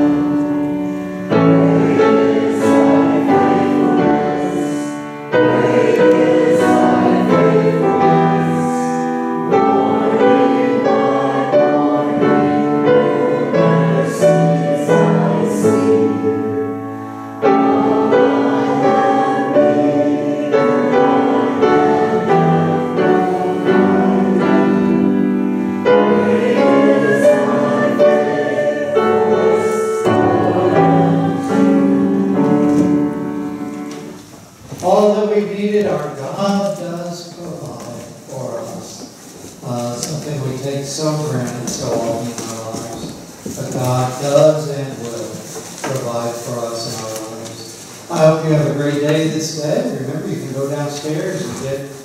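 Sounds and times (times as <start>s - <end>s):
congregation singing a hymn: 0.0s - 52.0s
keyboard accompaniment: 0.0s - 52.0s.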